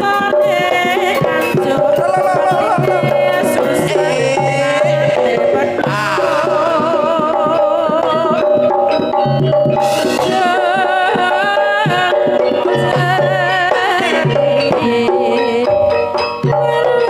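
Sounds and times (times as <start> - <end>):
hand drums beating: 0.0 - 17.0
vibrato melody line: 0.0 - 17.0.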